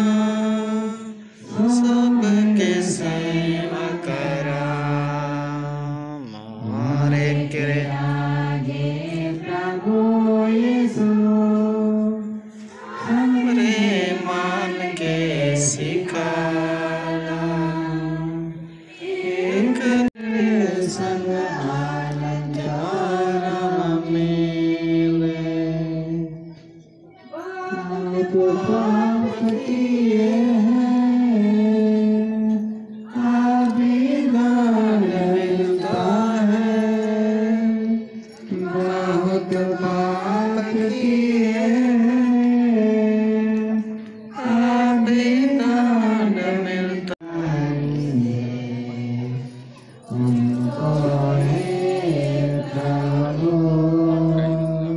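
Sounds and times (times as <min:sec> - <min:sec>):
voices singing a slow chant: 0:00.0 - 0:54.9.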